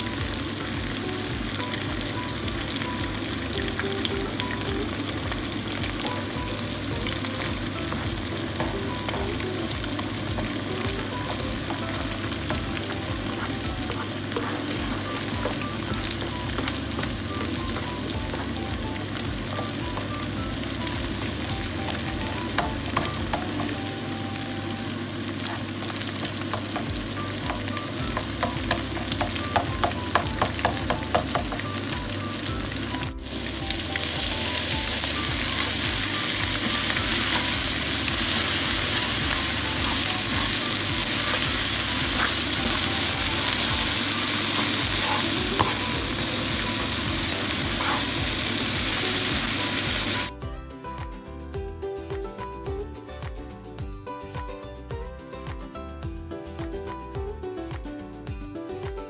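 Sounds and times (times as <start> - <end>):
eggs and vegetables sizzling in oil: 0.0 - 50.4.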